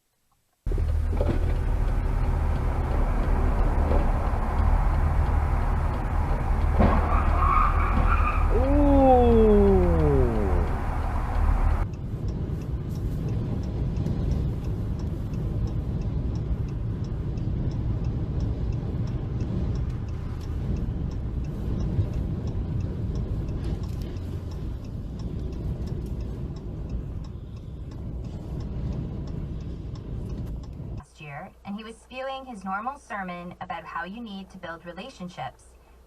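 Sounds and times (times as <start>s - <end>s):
faint light ticking: 0.3s - 33.6s
car road and engine rumble: 0.5s - 36.0s.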